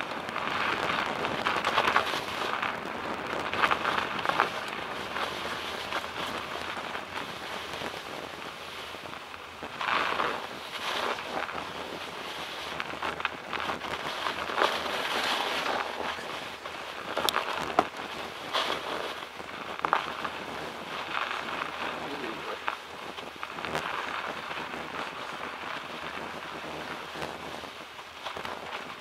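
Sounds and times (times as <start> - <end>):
bicycle tyres crunching over snow: 0.0 - 29.0
wind rushing on microphone: 0.0 - 29.0.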